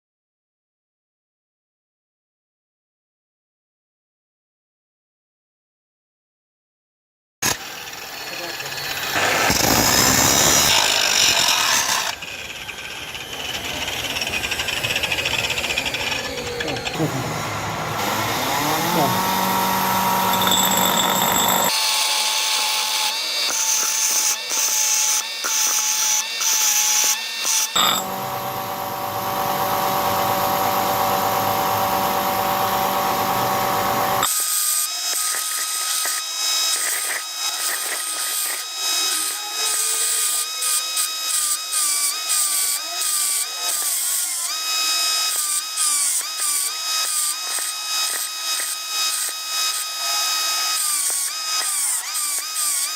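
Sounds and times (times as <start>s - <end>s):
electric power tool whining: 7.4s - 52.9s.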